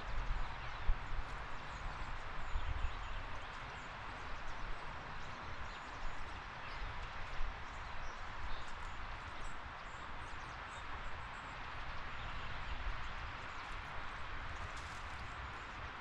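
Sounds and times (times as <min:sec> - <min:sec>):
wind rumble on the microphone: 0:00.0 - 0:16.0.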